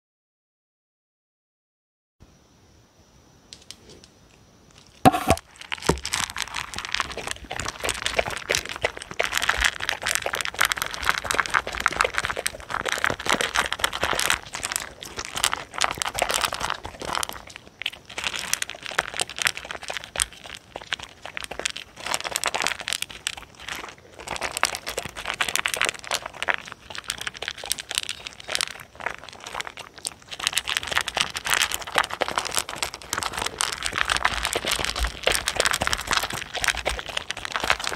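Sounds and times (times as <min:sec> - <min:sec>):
dogs crunching dry kibble: 0:04.7 - 0:37.9.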